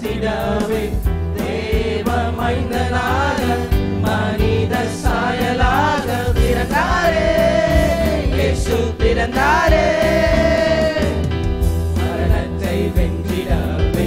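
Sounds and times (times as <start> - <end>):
youth choir singing: 0.0 - 11.4, 12.0 - 14.0
electronic keyboard with beat: 0.0 - 14.0.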